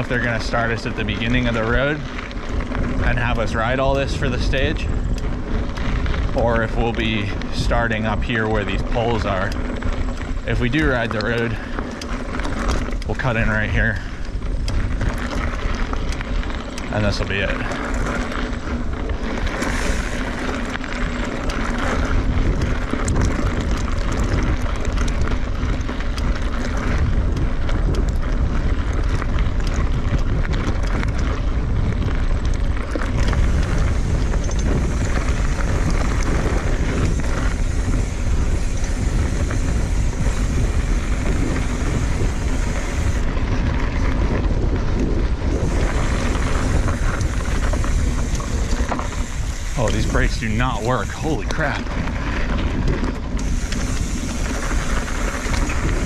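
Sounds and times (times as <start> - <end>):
bike rattles and clicks: 0.0 - 56.0
bike tyre noise on dirt: 0.0 - 56.0
wind on microphone: 0.0 - 56.0.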